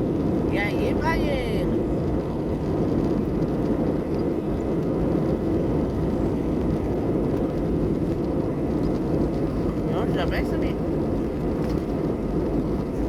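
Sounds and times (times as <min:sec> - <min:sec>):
airplane engines and airflow rumble: 0:00.0 - 0:13.0.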